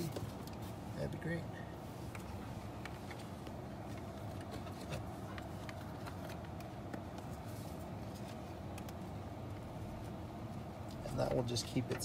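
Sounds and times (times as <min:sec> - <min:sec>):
steady low hum: 0:00.0 - 0:12.0
cable clicks and rustles: 0:02.0 - 0:12.0.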